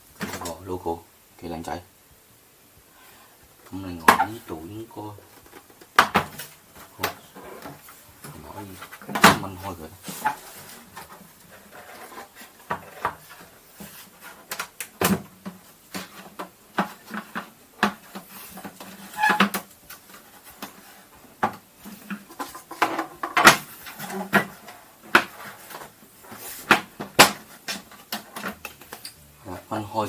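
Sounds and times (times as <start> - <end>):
rustling: 2.0 - 30.0.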